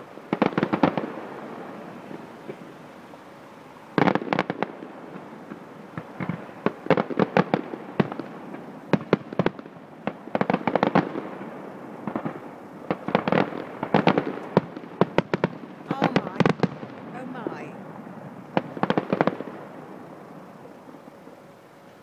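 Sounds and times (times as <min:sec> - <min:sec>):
fireworks bangs and cracks: 0:00.2 - 0:02.7, 0:04.0 - 0:19.9.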